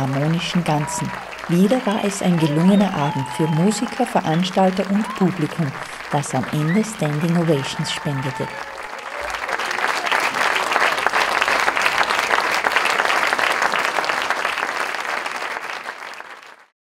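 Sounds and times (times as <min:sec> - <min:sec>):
audience applauding: 0:00.0 - 0:16.7.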